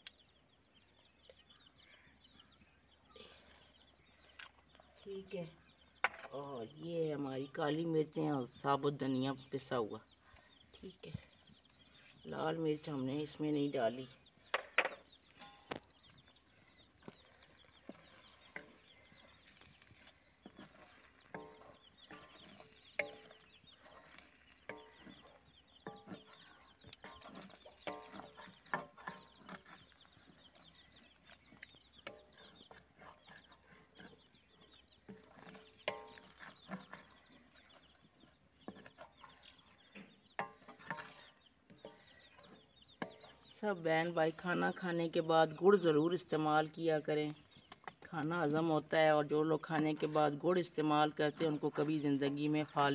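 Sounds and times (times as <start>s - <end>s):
chickens clucking: 10.3s - 52.9s.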